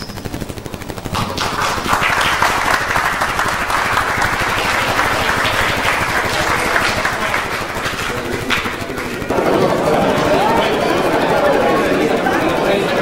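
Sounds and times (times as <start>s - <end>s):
audience applauding: 1.0s - 13.0s.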